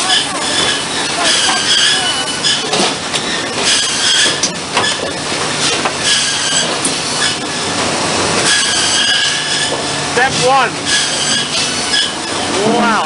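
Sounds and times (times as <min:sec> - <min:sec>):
mill machinery running: 0:00.0 - 0:13.0.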